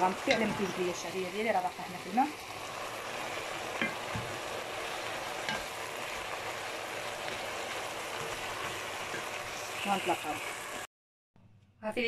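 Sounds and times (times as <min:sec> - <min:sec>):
food sizzling in a wok: 0:00.0 - 0:10.9.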